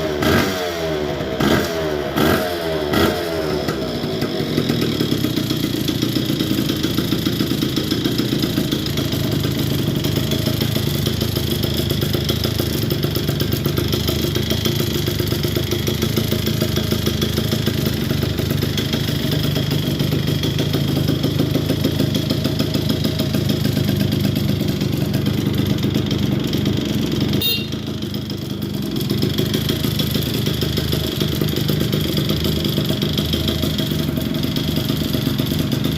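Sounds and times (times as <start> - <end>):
moped engine idling: 0.0 - 35.9.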